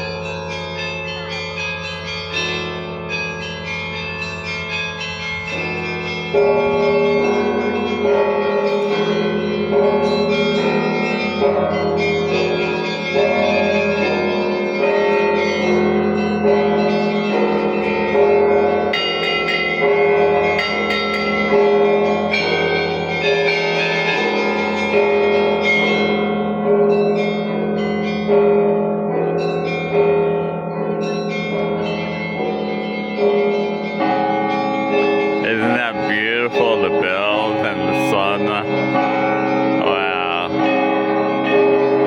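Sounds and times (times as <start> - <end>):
church bells pealing: 0.0 - 42.0.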